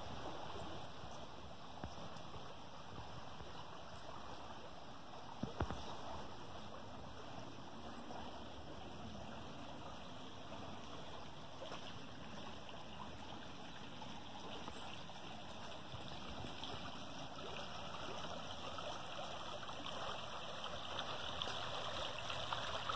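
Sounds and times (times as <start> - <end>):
creek water rushing over rocks: 0.0 - 22.9.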